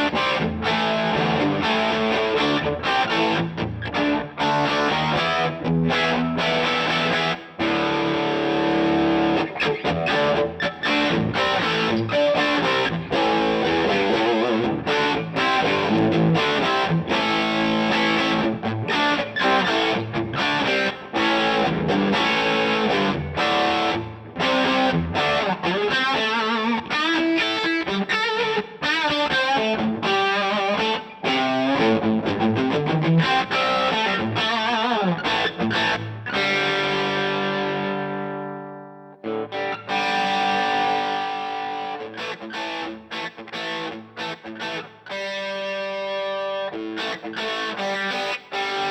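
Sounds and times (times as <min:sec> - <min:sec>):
distorted electric guitar lead: 0:00.0 - 0:48.9.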